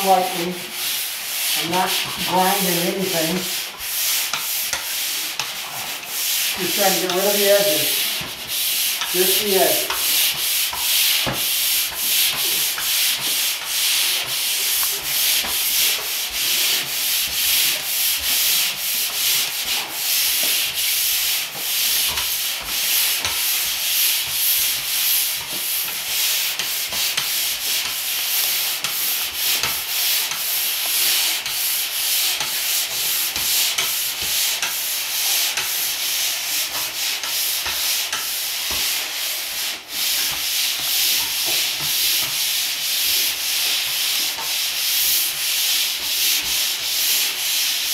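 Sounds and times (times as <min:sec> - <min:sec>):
pole sander sanding drywall: 0:00.0 - 0:47.9.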